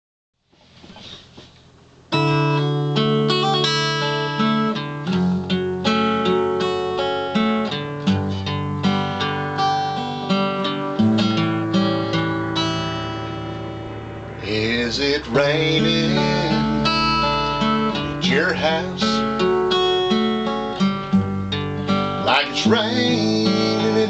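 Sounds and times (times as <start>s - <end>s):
acoustic guitar picked and strummed: 0.5s - 24.0s.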